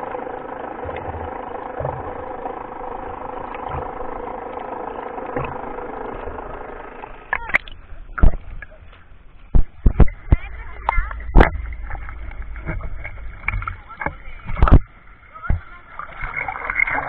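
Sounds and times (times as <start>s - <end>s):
boat engine drone underwater: 0.0s - 17.0s
thumps and sloshes against hull: 0.0s - 17.0s.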